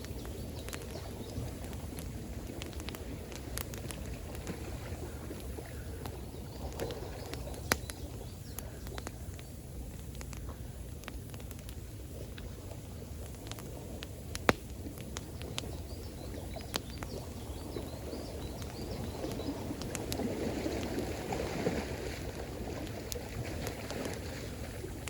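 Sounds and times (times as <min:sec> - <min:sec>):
campfire crackling and popping: 0:00.0 - 0:25.0
running water: 0:00.0 - 0:25.0.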